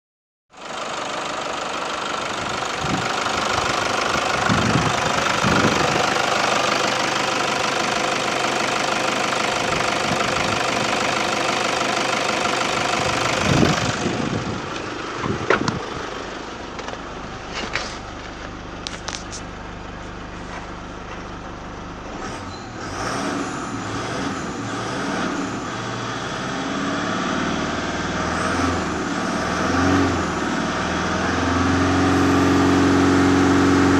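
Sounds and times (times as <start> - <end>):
diesel engine running: 0.6 - 33.9.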